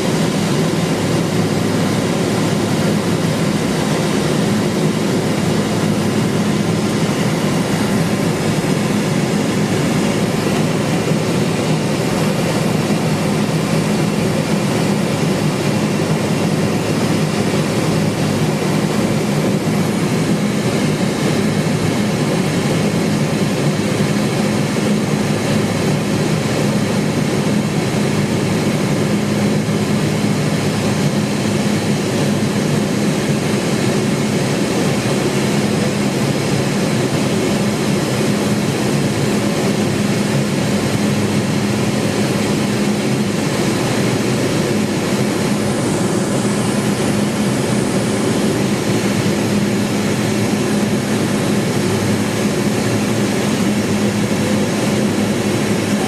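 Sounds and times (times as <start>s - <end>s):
propeller plane cabin drone: 0.0s - 56.0s.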